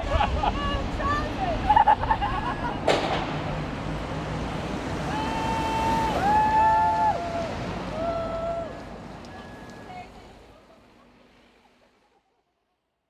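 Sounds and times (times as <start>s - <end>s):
road traffic noise: 0.0s - 12.4s.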